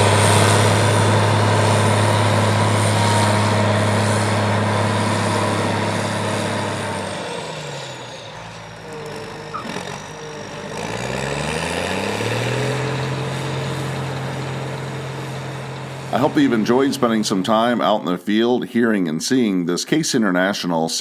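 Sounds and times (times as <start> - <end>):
combine diesel engine running: 0.0 - 18.2.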